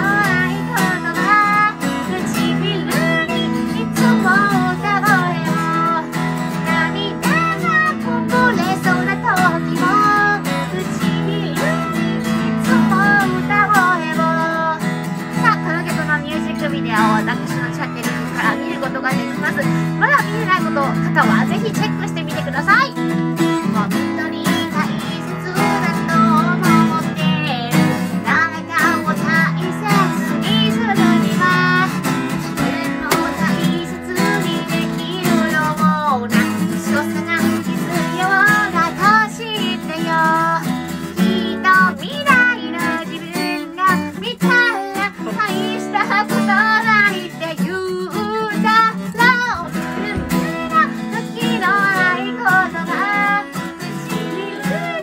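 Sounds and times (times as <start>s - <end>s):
strummed acoustic guitar: 0.0s - 55.0s
woman singing pop song: 0.0s - 55.0s.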